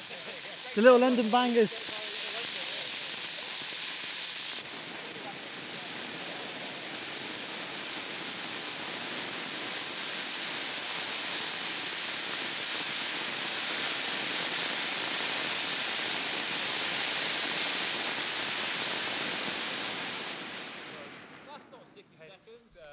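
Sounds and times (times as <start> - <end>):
firework fountain hissing: 0.0 - 22.6.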